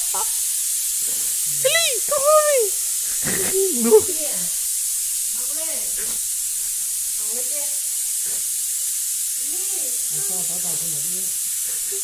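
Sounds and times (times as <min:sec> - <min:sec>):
steady high-pitched hiss: 0:00.0 - 0:12.0.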